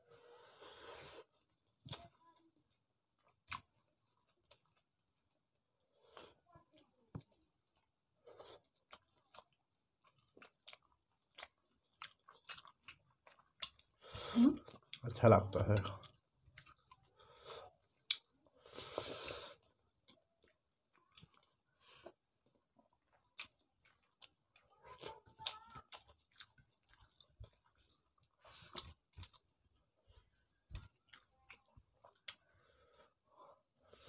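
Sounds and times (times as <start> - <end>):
soft chewing: 0.2 - 34.0.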